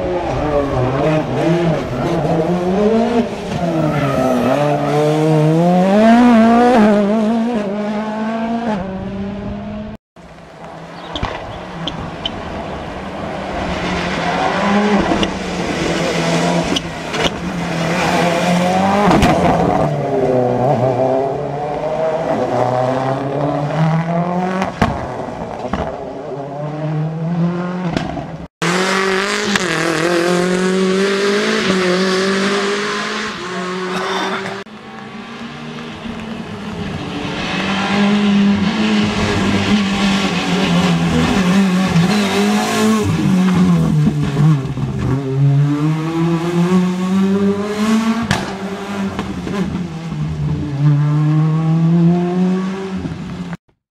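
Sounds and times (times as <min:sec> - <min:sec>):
rally car engines revving: 0:00.0 - 0:53.6.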